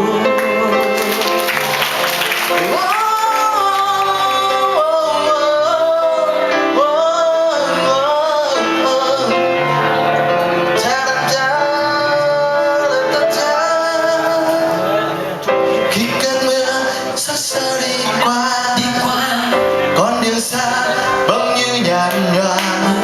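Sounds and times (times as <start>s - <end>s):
man singing: 0.0s - 1.8s, 2.4s - 23.0s
guitar accompaniment: 0.0s - 23.0s.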